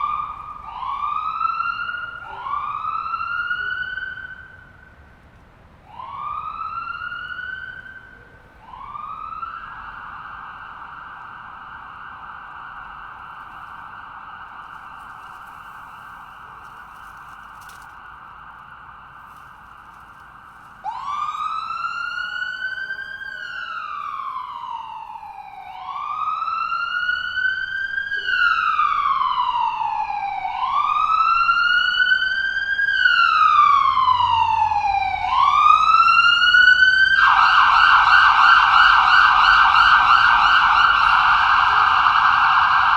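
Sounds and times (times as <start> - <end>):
ambulance siren: 0.0 - 42.9.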